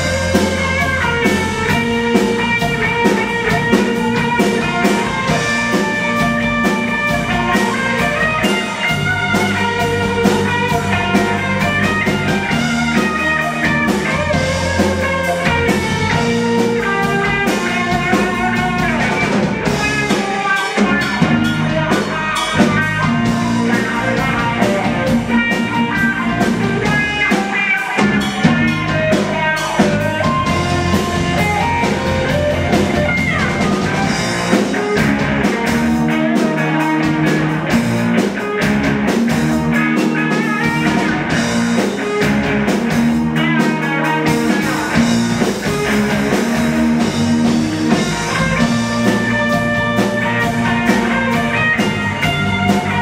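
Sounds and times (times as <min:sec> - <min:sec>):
drum kit beat: 0:00.0 - 0:53.0
electric guitars: 0:00.0 - 0:53.0.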